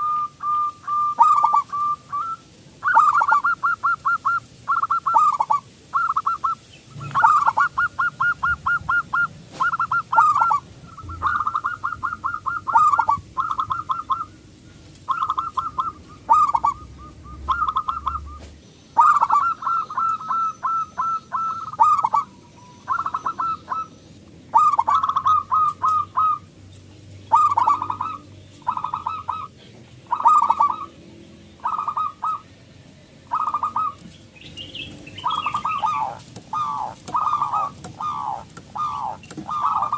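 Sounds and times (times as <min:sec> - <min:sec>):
dove cooing: 0:00.0 - 0:26.5, 0:27.3 - 0:39.9.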